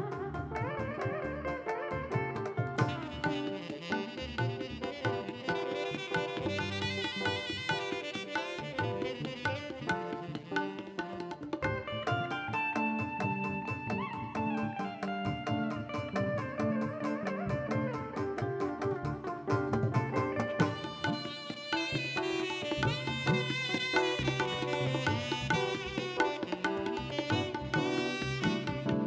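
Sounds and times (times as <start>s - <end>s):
bending melodic lines: 1.3s - 29.0s
quick percussion strokes: 2.4s - 29.0s.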